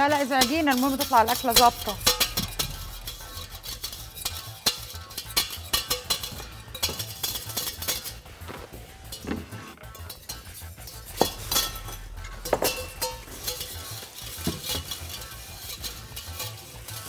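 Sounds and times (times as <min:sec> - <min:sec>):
utensils and dishes clinking: 0:00.0 - 0:17.0
wooden spoon scraping frying pan: 0:00.0 - 0:17.0.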